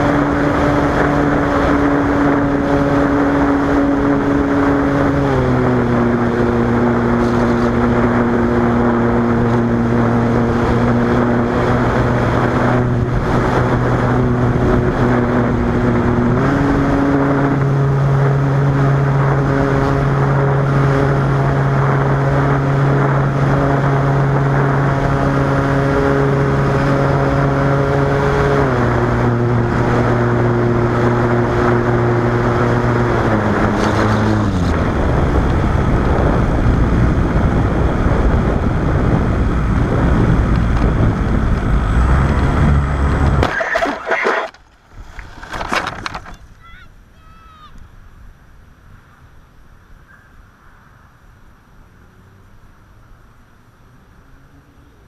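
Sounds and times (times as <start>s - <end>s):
propeller plane engine droning: 0.0s - 55.0s.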